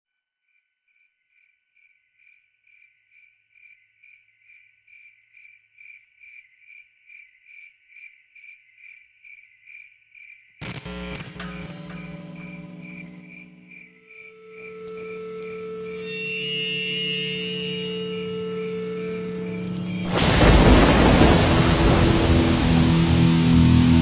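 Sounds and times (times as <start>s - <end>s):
cricket chirping: 0.4s - 22.8s.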